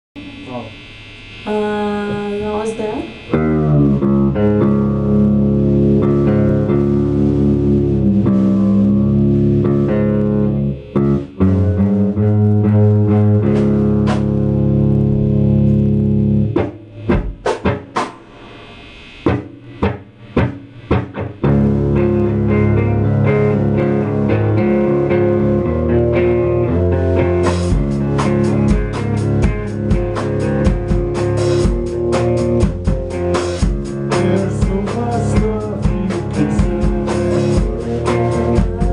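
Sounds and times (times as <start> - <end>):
distorted electric guitar: 0.2 - 38.9
rock drum kit: 3.2 - 38.9.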